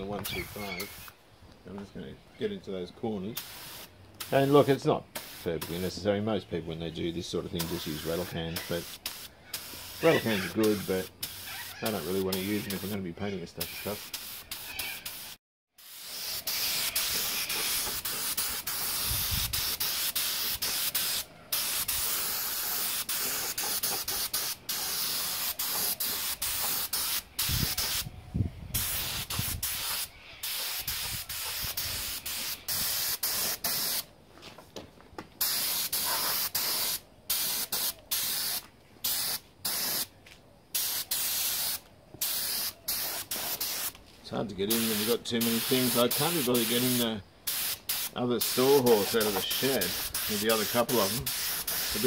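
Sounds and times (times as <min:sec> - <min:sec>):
spray gun hissing: 0:03.4 - 0:05.8, 0:07.6 - 0:13.0, 0:13.6 - 0:28.1, 0:28.7 - 0:34.0, 0:35.4 - 0:40.1, 0:40.8 - 0:43.9, 0:44.7 - 0:52.0.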